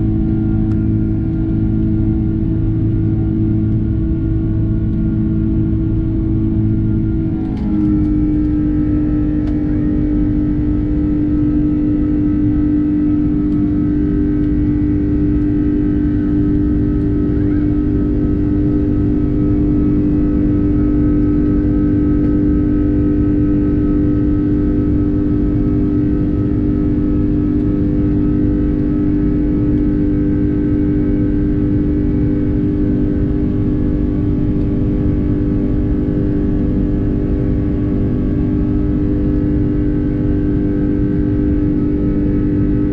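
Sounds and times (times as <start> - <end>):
jet engines drone from cabin: 0.0 - 42.9.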